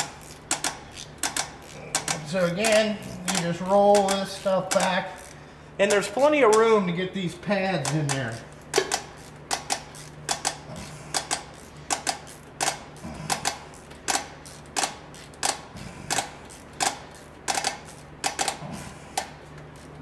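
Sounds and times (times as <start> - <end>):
ratchet clicking: 0.0 - 6.7, 7.8 - 18.6, 19.2 - 20.0.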